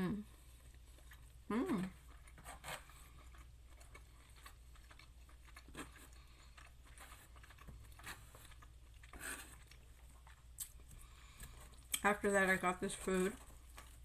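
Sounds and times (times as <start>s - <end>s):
person chewing and crunching food: 0.0s - 14.0s.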